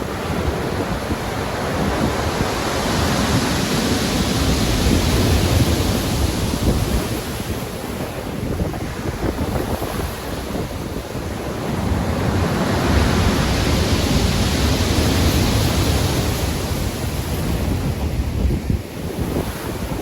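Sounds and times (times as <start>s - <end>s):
stormy sea surf: 0.0s - 20.0s
wind: 0.0s - 20.0s.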